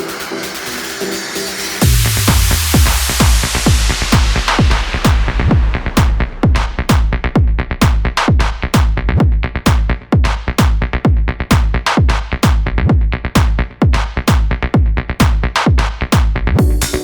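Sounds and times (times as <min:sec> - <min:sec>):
electronic dance music: 0:00.0 - 0:12.7, 0:15.2 - 0:17.0
pounding kick drum: 0:01.8 - 0:17.0.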